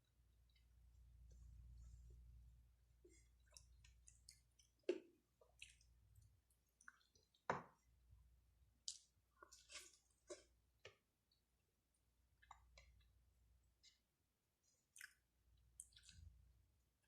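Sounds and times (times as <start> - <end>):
soft chewing: 0.1 - 8.0, 8.7 - 11.5, 12.2 - 17.0.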